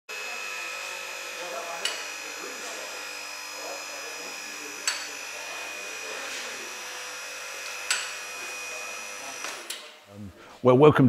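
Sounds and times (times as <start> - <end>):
machine whining: 0.1 - 10.4.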